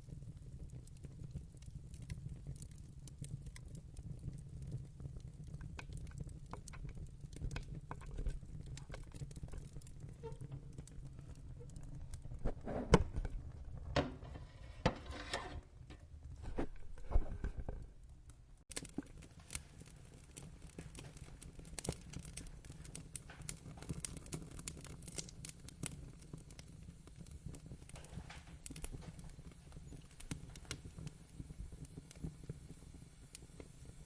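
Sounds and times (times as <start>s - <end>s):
wood fire crackling and popping: 0.0s - 34.0s.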